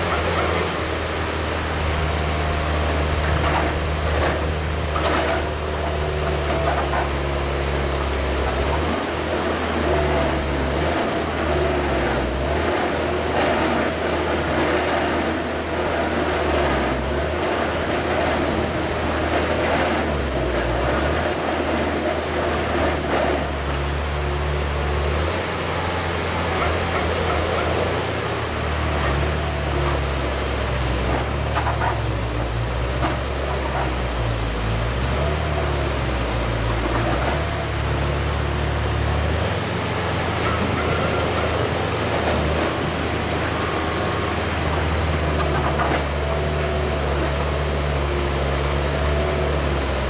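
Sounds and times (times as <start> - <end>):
digger engine under load: 0.0 - 50.0.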